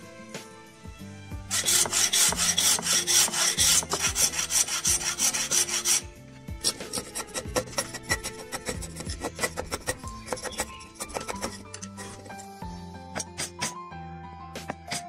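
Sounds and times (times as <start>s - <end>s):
soft music: 0.0s - 15.0s
hand tool cutting hardwood: 1.5s - 13.8s, 14.6s - 15.0s.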